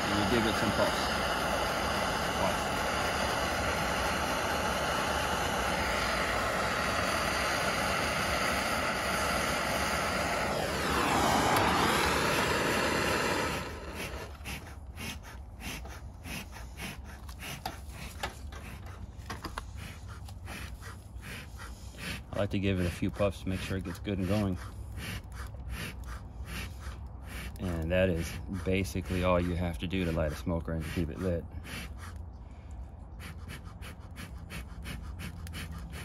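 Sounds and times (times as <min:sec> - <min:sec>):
torch flame hissing: 0:00.0 - 0:32.2.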